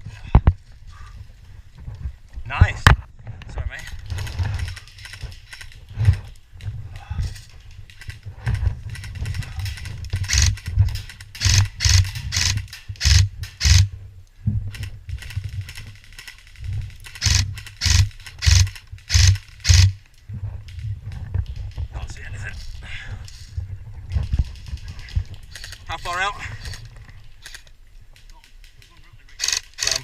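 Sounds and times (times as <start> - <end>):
camera movement rumble: 0.0 - 30.0.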